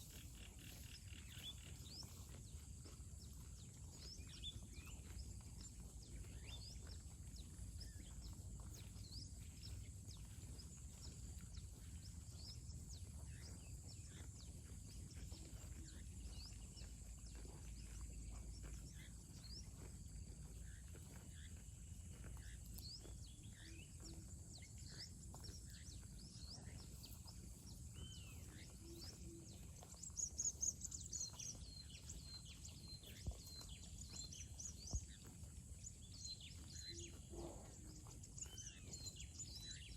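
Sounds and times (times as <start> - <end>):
bird chirps: 0.0 - 39.9.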